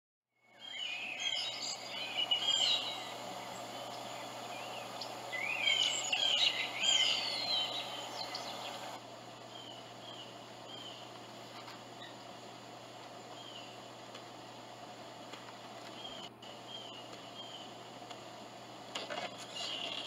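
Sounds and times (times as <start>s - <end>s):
songbirds chirping: 0.4s - 20.0s
steady background noise: 0.4s - 20.0s.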